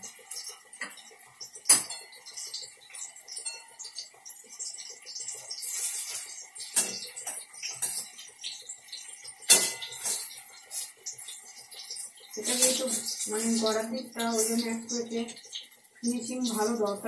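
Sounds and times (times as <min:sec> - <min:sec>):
slices sizzling in hot oil: 0:00.0 - 0:17.0
spatula scraping and clinking on pan: 0:00.3 - 0:15.8.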